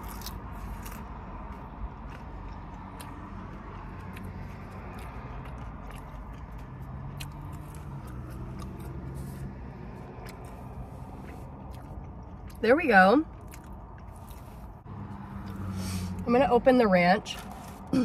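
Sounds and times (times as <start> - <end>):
chewing food: 0.0 - 15.7.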